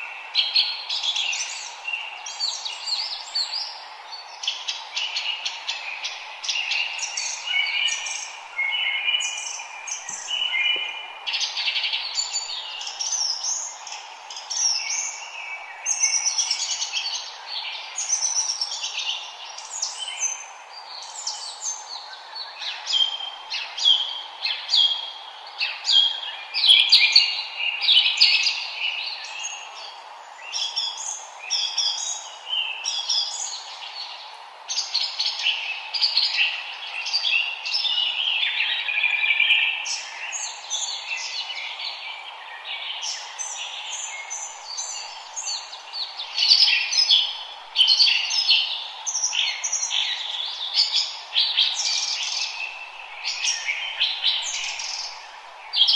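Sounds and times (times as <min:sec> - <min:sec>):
songbirds chirping and trilling: 0:00.0 - 0:55.9
steady low hiss: 0:00.0 - 0:55.9.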